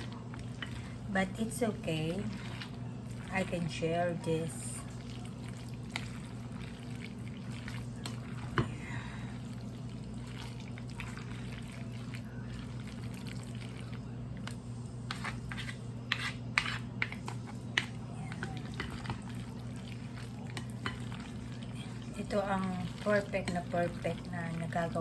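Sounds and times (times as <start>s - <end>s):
spoon mixing wet salad: 0.0s - 25.0s.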